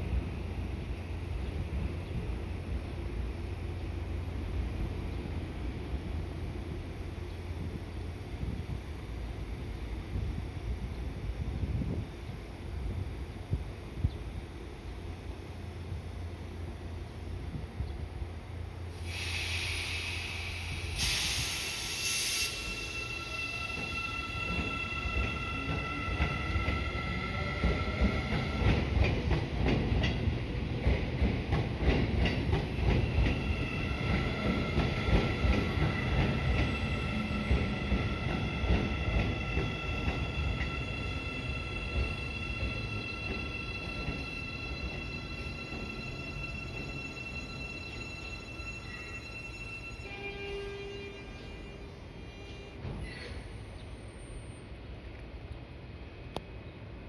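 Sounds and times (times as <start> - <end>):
low train rumble: 0.0 - 57.0.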